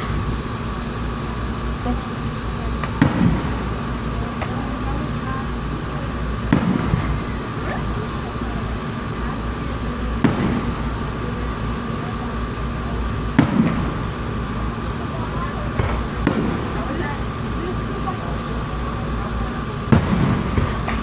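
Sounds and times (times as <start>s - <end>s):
fireworks shells booming: 0.0s - 21.0s.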